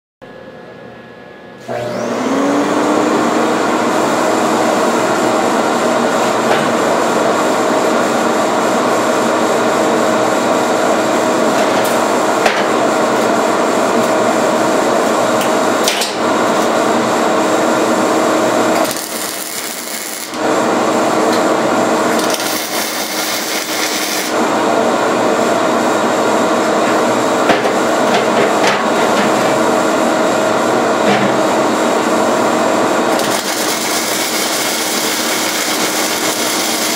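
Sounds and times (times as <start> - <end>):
vacuum turbine running: 1.8 - 36.9.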